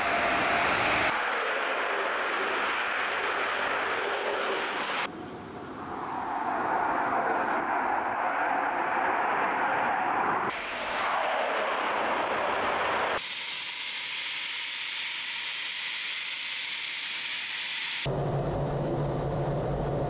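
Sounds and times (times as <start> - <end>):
fighter jet engines roaring: 0.0 - 16.4, 17.0 - 20.0.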